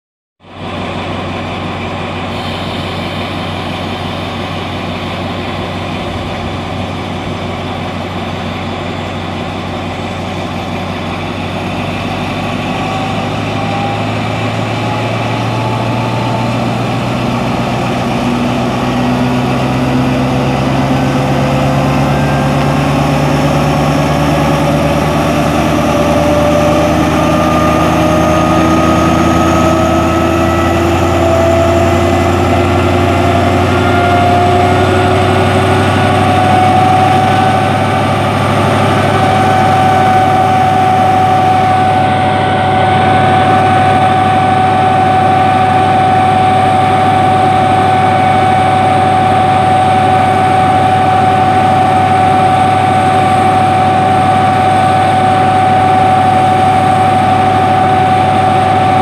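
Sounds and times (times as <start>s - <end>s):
locomotive diesel engine running: 0.4s - 59.0s.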